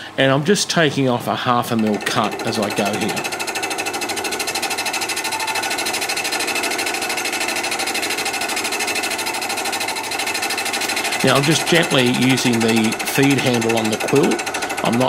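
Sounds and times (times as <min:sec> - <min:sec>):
milling machine cutting metal: 0:00.9 - 0:15.0.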